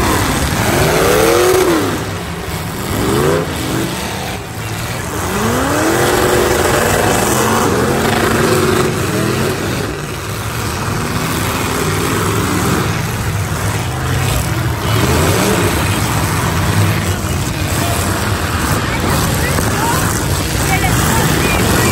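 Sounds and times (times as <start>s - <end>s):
car engines revving hard: 0.0s - 21.9s.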